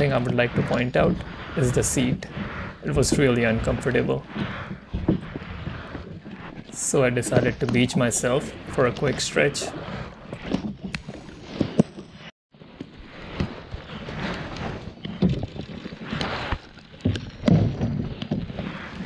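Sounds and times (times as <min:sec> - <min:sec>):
paddle strokes splashing: 0:00.0 - 0:19.0.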